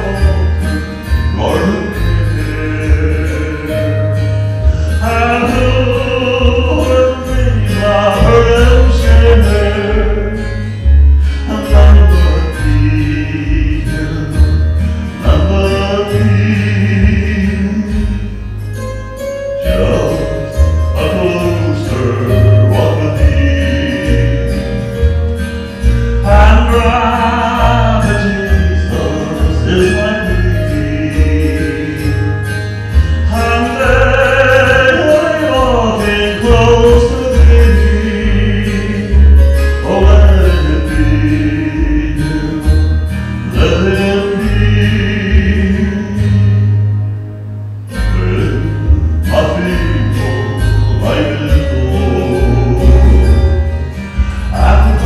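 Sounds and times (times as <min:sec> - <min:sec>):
man singing gospel song: 0:00.0 - 0:18.9, 0:19.6 - 0:25.2, 0:25.8 - 0:46.8, 0:47.9 - 0:55.0
instrumental accompaniment with bass beat: 0:00.0 - 0:55.0.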